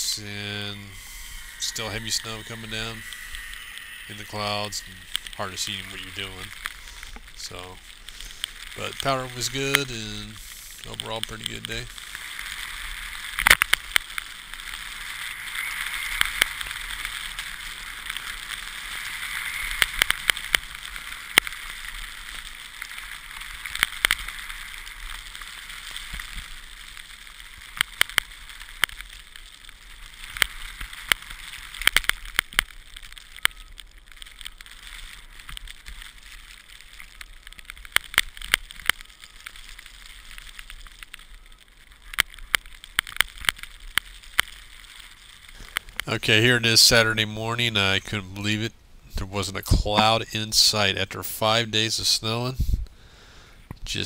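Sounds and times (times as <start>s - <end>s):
skis sliding over snow: 0.0s - 54.0s.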